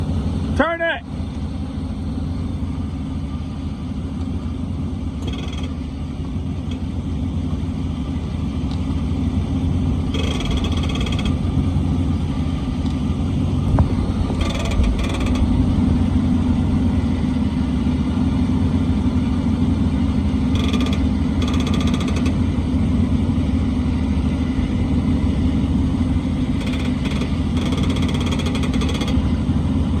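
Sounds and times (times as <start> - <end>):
pickup truck engine rumbling: 0.0 - 30.0.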